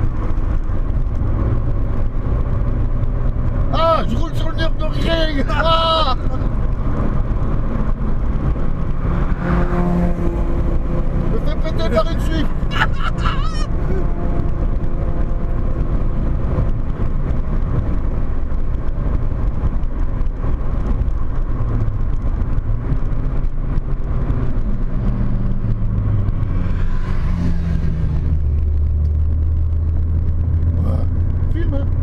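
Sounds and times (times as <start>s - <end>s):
car engine pulling at speed: 0.0s - 32.0s
road noise: 0.0s - 32.0s.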